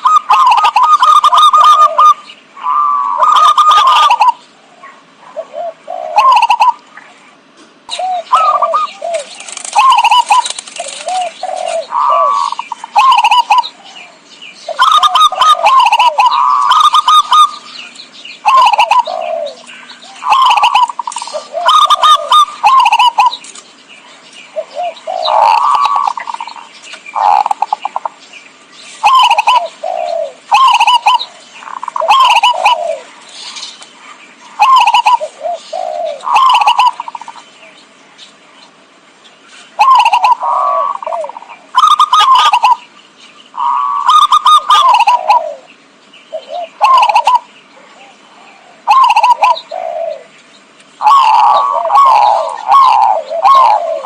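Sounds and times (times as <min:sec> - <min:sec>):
dove cooing: 0:00.0 - 0:23.6, 0:24.4 - 0:28.2, 0:29.0 - 0:37.6, 0:39.7 - 0:42.9, 0:43.6 - 0:50.4, 0:51.0 - 0:54.0.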